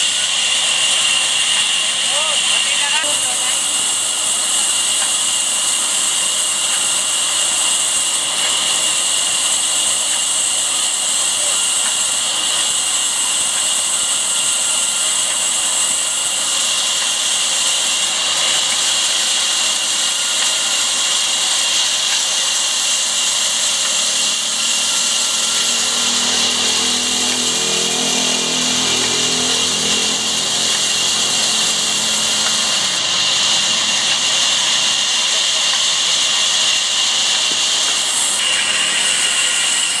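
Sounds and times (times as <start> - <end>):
band saw cutting wood: 0.0 - 40.0.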